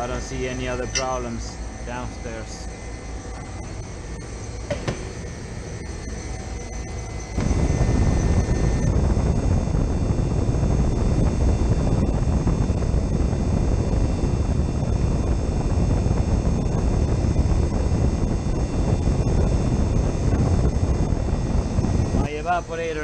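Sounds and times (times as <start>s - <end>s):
refrigeration fan and machinery: 0.0s - 23.0s.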